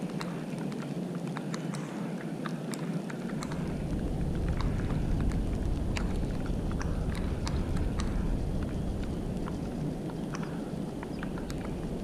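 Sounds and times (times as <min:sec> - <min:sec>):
light ticks and rustles: 0:00.0 - 0:12.0
wind buffeting microphone: 0:00.0 - 0:12.0.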